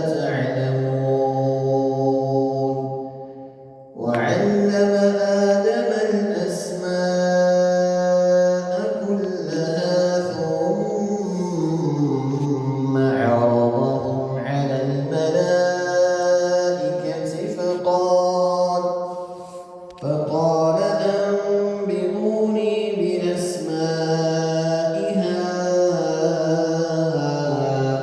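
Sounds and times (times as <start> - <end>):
man chanting over loudspeakers: 0.0 - 28.0.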